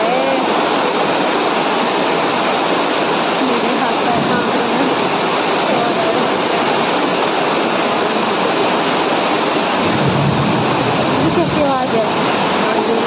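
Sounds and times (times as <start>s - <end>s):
rush of floodwater: 0.0s - 13.0s.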